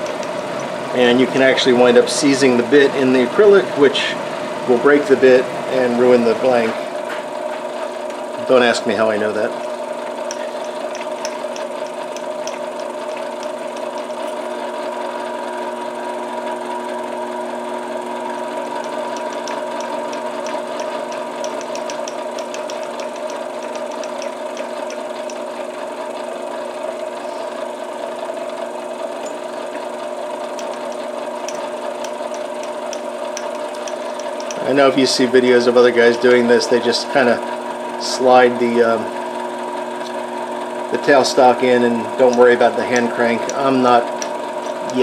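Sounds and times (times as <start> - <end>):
metal lathe humming: 0.0 - 45.0.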